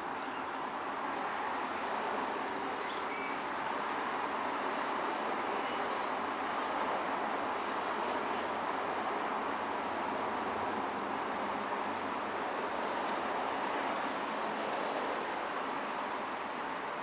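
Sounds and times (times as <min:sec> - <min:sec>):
road traffic hiss: 0:00.0 - 0:17.0.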